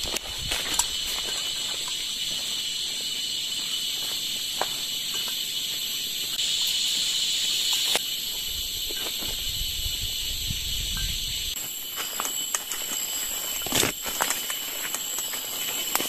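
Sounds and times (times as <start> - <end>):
forest insects buzzing: 0.0 - 16.0.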